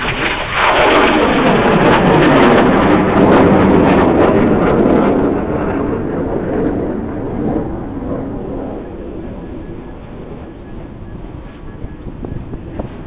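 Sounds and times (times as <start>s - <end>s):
military aircraft engine: 0.0s - 13.0s.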